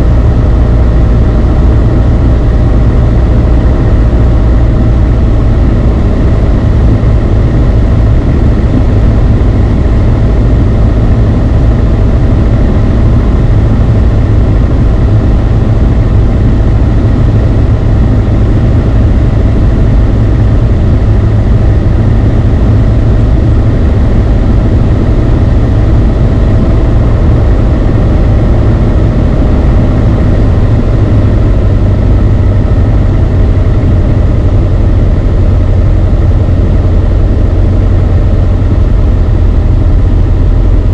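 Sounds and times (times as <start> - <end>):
airplane engine droning in flight: 0.0 - 40.9.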